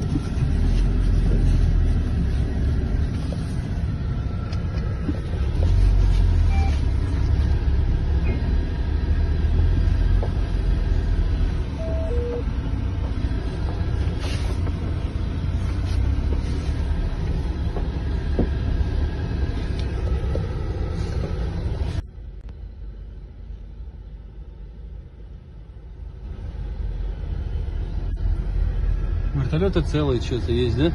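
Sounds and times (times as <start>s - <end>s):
car engine and road noise: 0.0s - 30.9s.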